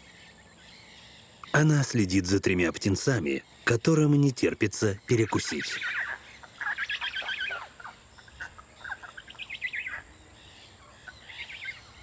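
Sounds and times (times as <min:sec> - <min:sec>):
stork chicks begging calls: 0:01.4 - 0:12.0.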